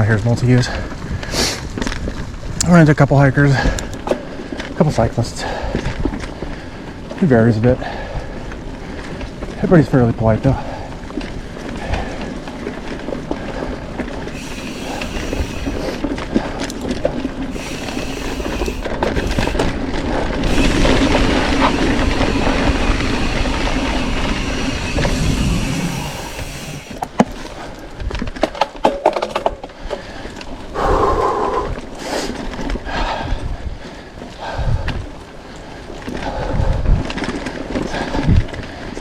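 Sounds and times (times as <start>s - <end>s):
bike clicking and rattling: 0.0s - 31.0s, 31.7s - 39.0s
bike tyre and wind noise: 0.0s - 39.0s.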